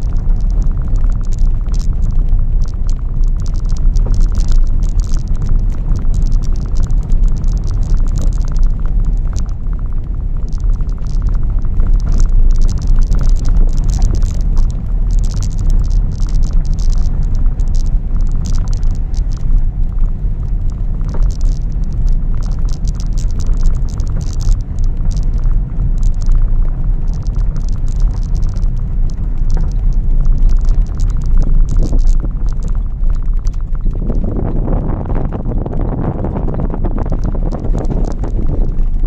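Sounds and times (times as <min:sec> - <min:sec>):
gravel crackling under tyres: 0:00.0 - 0:39.0
tyre and engine rumble: 0:00.0 - 0:39.0.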